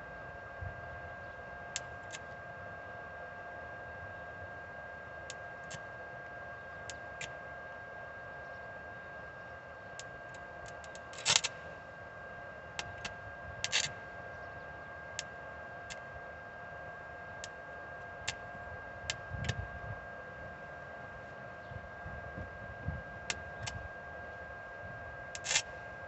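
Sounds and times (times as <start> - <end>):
electric welding whine: 0.0 - 26.0.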